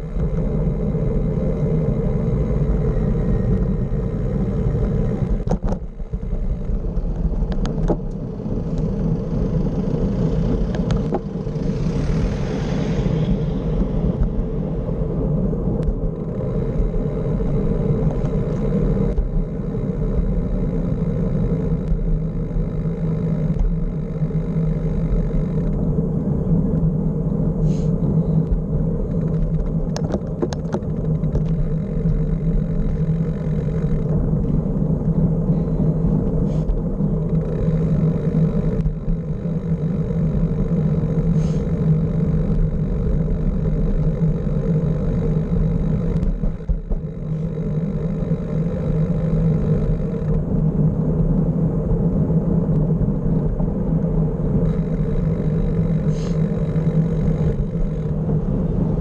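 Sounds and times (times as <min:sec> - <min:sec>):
road rumble: 0:00.0 - 0:59.0
wind: 0:00.0 - 0:59.0.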